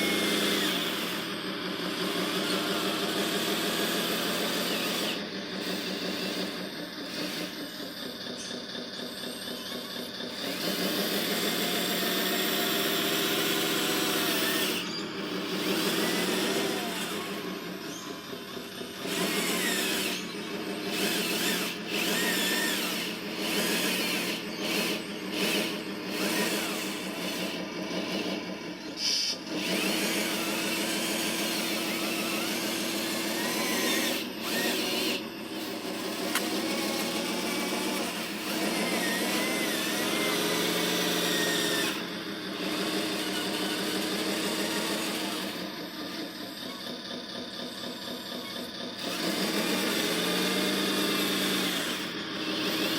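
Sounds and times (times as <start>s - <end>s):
small electric motors whining: 0.0s - 52.9s.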